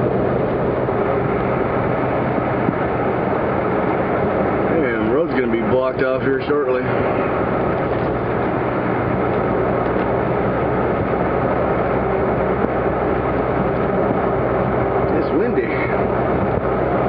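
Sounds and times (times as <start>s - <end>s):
low engine hum: 0.0s - 17.0s
road and wind noise: 0.0s - 17.0s.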